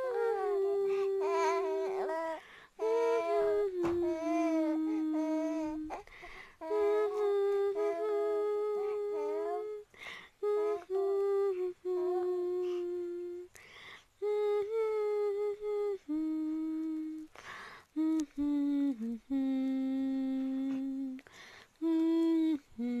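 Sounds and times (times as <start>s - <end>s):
woman humming a lullaby: 0.0s - 23.0s.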